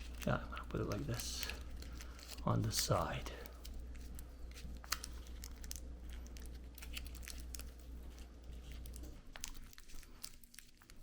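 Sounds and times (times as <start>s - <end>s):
plastic tape crinkling and clicking: 0.0s - 11.0s
steady low hum: 0.0s - 11.0s.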